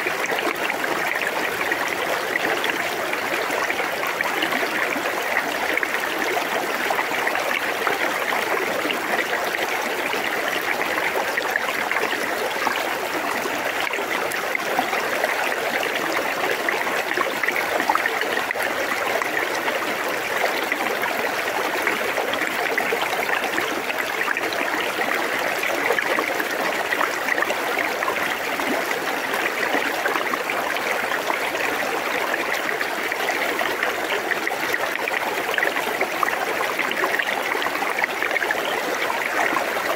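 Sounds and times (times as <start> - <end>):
river trickling around stones: 0.0 - 39.9.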